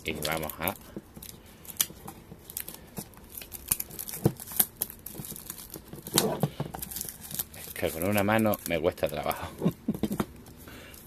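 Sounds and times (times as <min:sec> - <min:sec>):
plastic shrink-wrap crinkling: 0:00.0 - 0:09.8.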